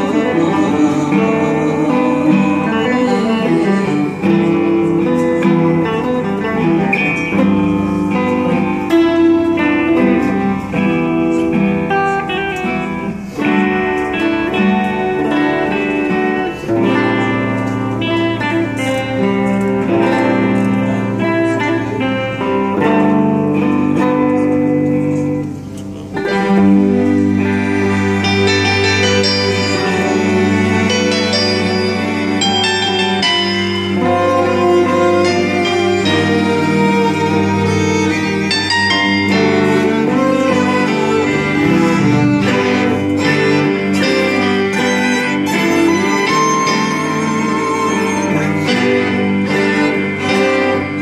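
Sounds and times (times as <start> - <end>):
band with electric guitars and strings: 0.0 - 51.0
keyboard: 0.0 - 51.0
violins and cello bowing: 0.0 - 51.0.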